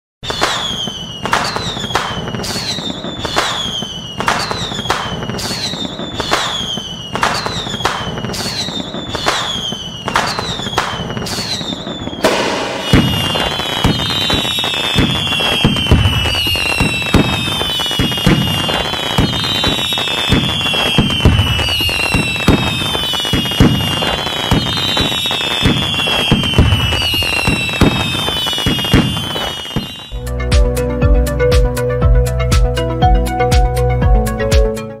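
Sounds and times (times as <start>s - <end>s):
firework bangs: 0.2s - 30.2s
firework crackling: 0.2s - 30.2s
whistling rockets: 0.2s - 30.2s.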